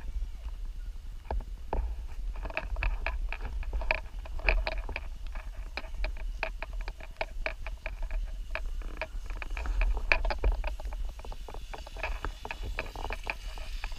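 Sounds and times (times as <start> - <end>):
wind rumble: 0.0 - 13.9
gear rattling clicks: 2.3 - 13.9.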